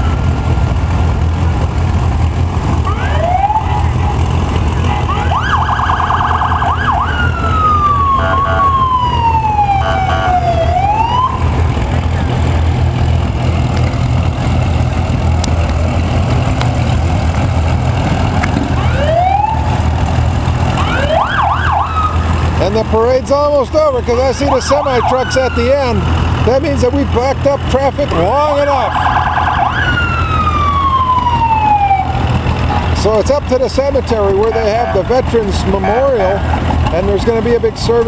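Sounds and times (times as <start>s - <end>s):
emergency vehicle siren: 0.0s - 1.7s, 2.6s - 12.8s, 17.8s - 37.1s
low drone of heavy engines: 0.0s - 38.0s.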